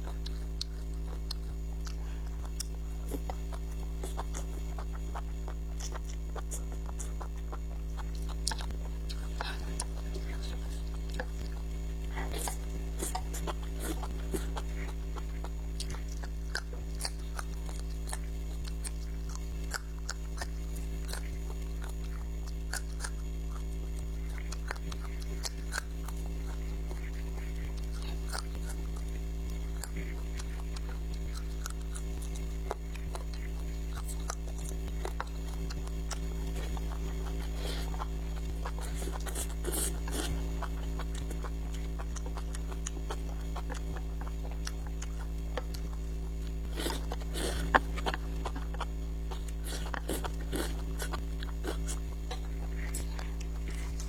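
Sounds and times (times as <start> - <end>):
chewing and biting food: 0.0 - 54.0
low electrical hum: 0.0 - 54.0.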